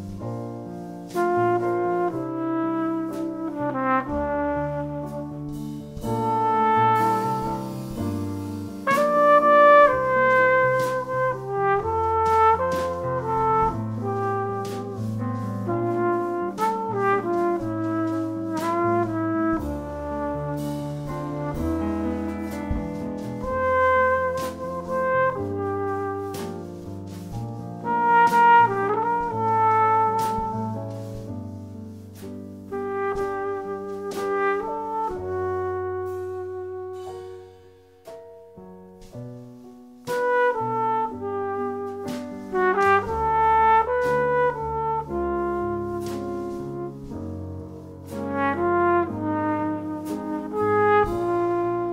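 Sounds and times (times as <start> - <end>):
trumpet melody: 0.0 - 38.5, 39.4 - 51.9
drum kit: 0.0 - 51.9
piano: 0.0 - 51.9.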